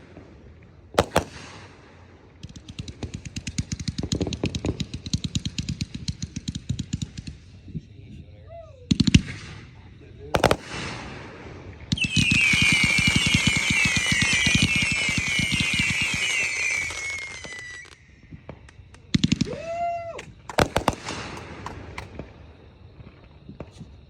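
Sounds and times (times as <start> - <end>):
firework bangs: 0.0 - 7.7, 8.9 - 24.0
fireworks crackling pops: 0.0 - 7.7, 10.4 - 24.0
fireworks whistles falling: 0.9 - 7.2, 10.4 - 24.0.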